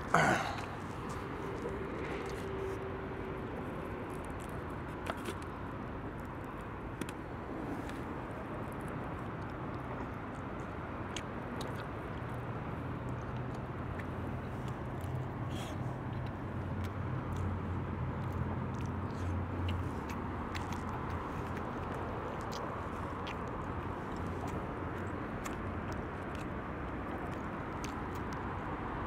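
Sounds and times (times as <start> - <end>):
person chewing food: 0.0 - 29.0
traffic noise: 0.0 - 29.0.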